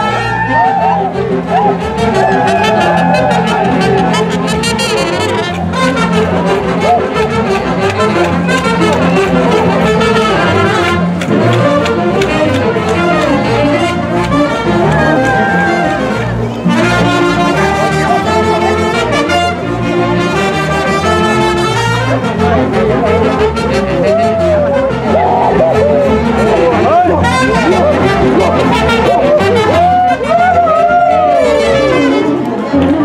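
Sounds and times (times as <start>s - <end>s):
brass band playing dance tune: 0.0s - 33.0s.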